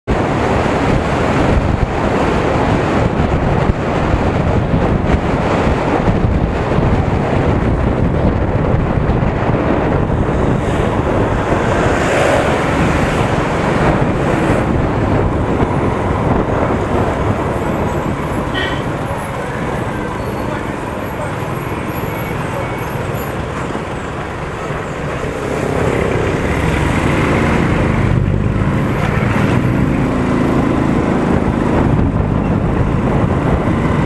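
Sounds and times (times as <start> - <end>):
wind buffeting microphone: 0.1 - 34.0.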